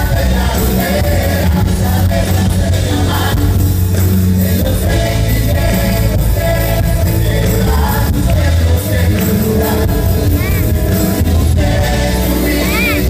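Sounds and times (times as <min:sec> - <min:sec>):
heavy bass line: 0:00.0 - 0:13.0
live band with singing: 0:00.0 - 0:13.0.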